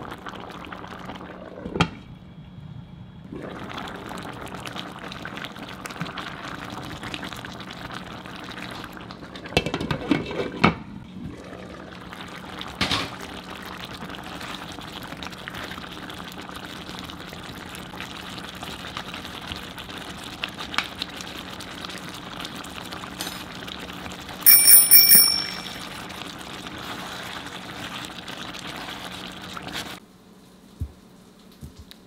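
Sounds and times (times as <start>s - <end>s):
food simmering in a pan: 0.0s - 24.5s, 25.8s - 32.0s.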